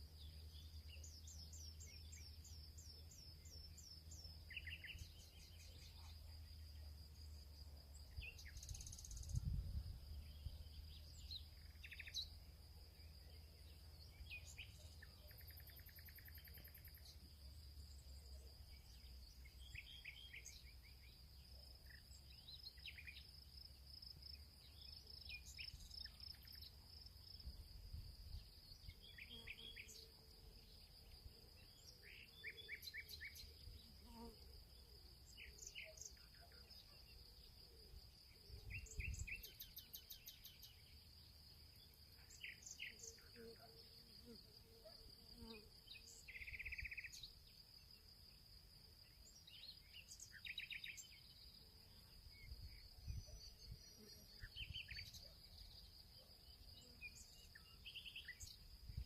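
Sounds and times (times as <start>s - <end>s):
small birds chirping: 0.0s - 27.6s, 28.3s - 48.1s, 49.0s - 59.0s
insect trill: 0.0s - 59.0s.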